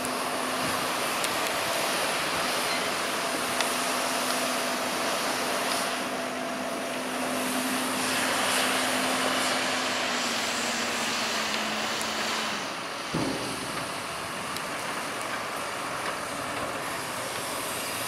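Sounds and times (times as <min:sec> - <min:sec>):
wheel loader diesel engine: 0:00.0 - 0:18.0.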